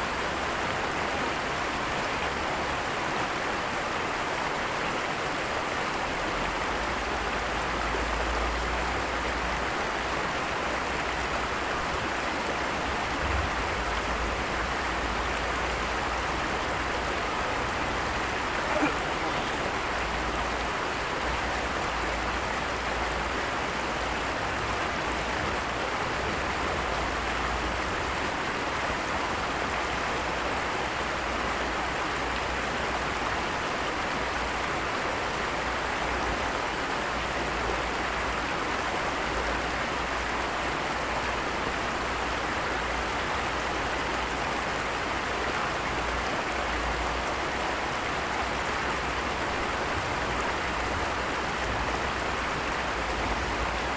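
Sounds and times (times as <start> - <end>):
rushing water: 0.0 - 53.9.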